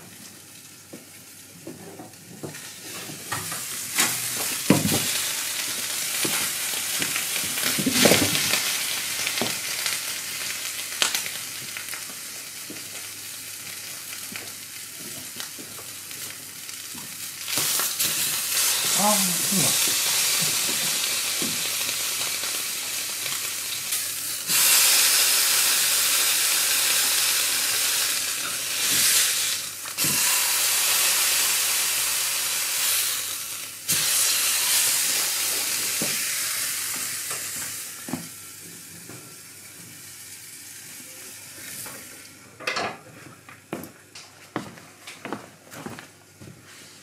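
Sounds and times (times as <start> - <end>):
meat sizzling in a skillet: 2.5 - 42.3.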